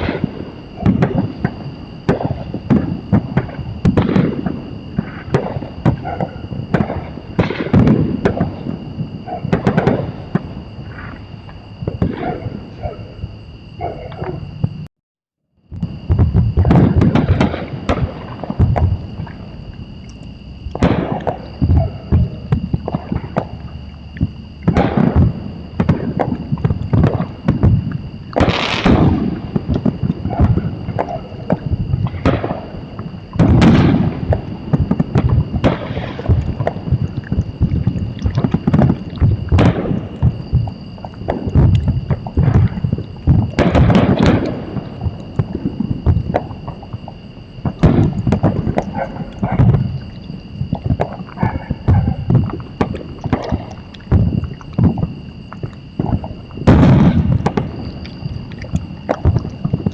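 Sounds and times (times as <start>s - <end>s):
fireworks booming and crackling: 0.0s - 14.9s, 15.6s - 59.9s.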